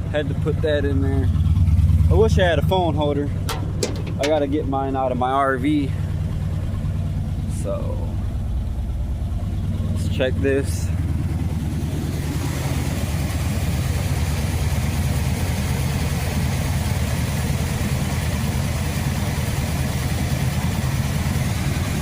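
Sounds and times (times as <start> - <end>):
truck engine running steadily: 0.0 - 22.0.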